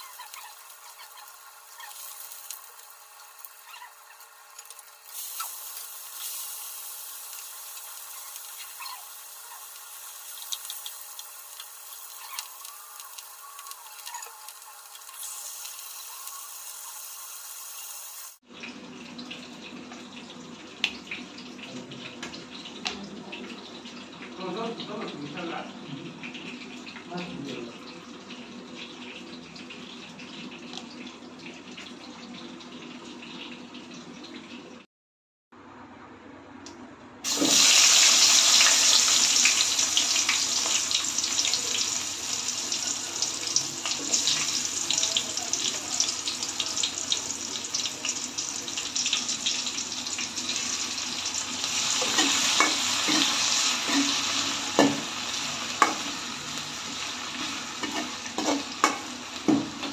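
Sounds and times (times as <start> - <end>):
onions sizzling in hot oil: 0.0 - 34.1, 37.2 - 59.9.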